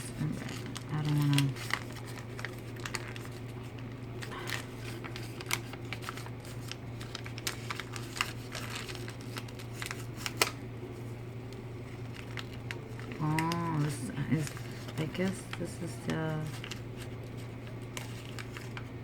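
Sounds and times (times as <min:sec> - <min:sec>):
plastic packaging crinkling: 0:00.0 - 0:19.0
steady low hum: 0:00.0 - 0:19.0.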